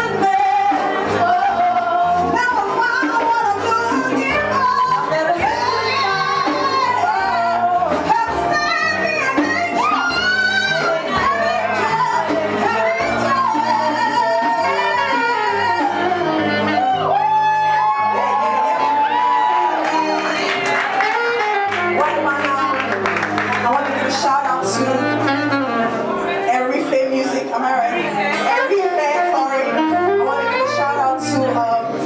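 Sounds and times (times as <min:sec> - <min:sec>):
woman singing into microphone: 0:00.0 - 0:17.2, 0:17.8 - 0:25.9, 0:26.5 - 0:32.0
saxophone: 0:00.0 - 0:26.8, 0:28.5 - 0:32.0.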